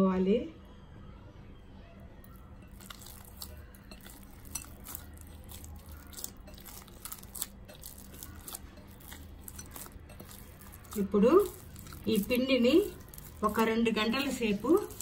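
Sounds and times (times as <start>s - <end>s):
dough squishing: 2.2s - 15.0s.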